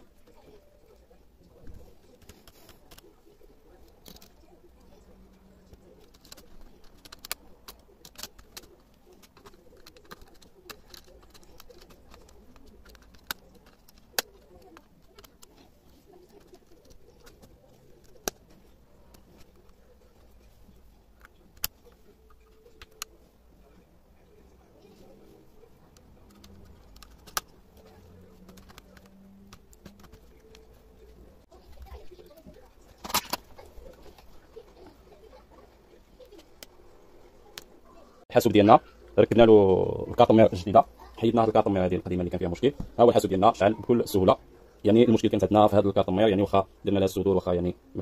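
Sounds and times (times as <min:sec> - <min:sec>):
faint pigeon cooing: 0:00.0 - 0:40.1.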